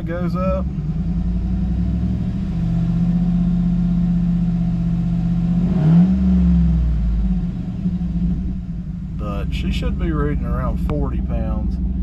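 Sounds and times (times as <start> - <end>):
pickup engine idling and revving: 0.0 - 12.0.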